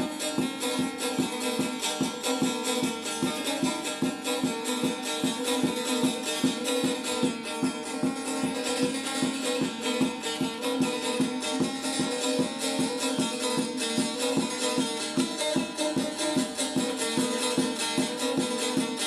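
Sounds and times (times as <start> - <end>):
plucked lute strumming: 0.0 - 19.0.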